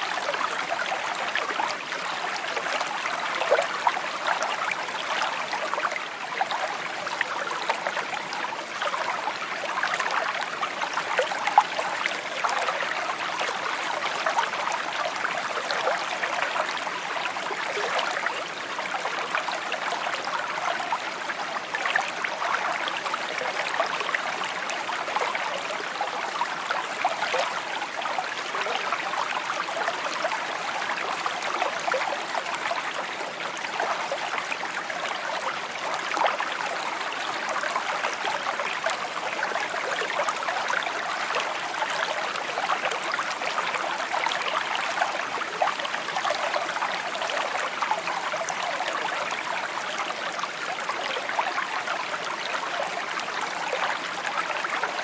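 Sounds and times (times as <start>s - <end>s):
creek water babbling over stones: 0.0s - 55.0s.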